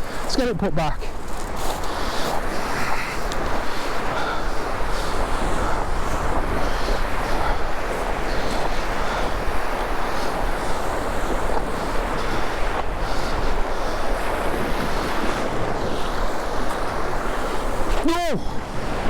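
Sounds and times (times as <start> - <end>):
surf breaking on a beach: 0.0 - 19.0
wind buffeting microphone: 0.0 - 19.0.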